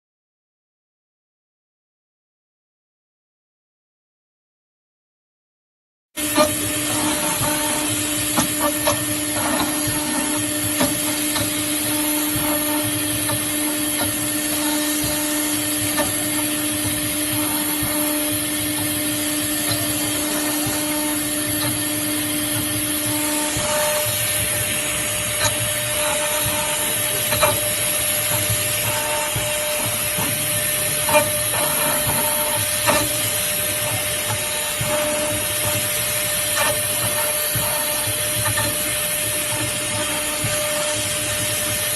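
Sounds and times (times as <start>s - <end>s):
router machine drone: 6.2s - 41.9s.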